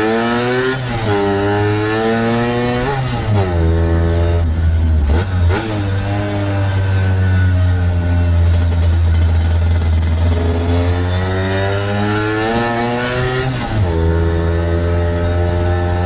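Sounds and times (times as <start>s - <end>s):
scooter engine accelerating: 0.0s - 16.0s.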